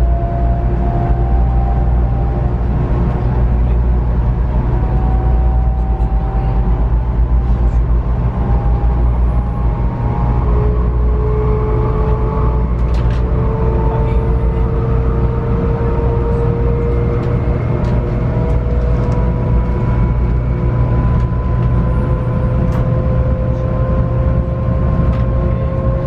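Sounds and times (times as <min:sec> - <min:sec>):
low rumble of running gear: 0:00.0 - 0:26.0.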